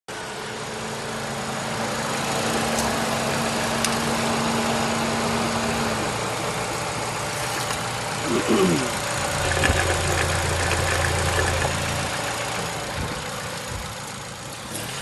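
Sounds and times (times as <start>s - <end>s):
car engine idling: 0.1s - 15.0s.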